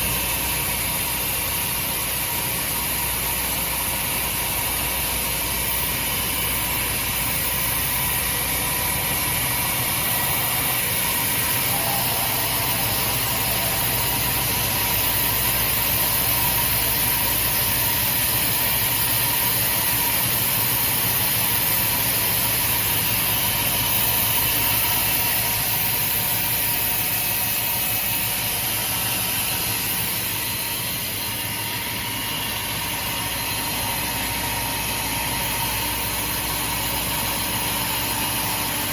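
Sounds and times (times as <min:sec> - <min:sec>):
band saw running: 0:00.0 - 0:38.9.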